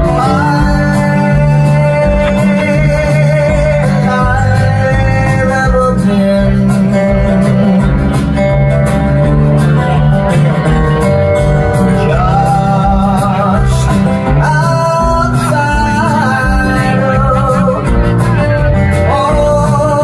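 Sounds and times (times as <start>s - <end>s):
drums: 0.0s - 20.0s
man singing: 0.0s - 20.0s
strummed acoustic guitar: 0.0s - 20.0s.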